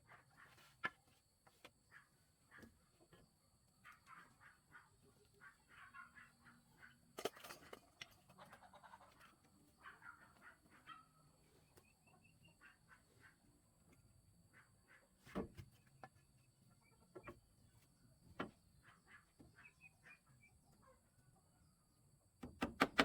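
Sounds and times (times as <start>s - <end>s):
faint fowl calls: 0.0s - 22.0s.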